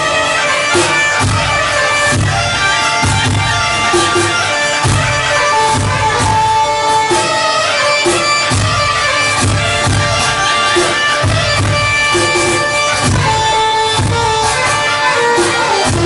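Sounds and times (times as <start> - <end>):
programmed drum and bass beat: 0.1 - 16.0.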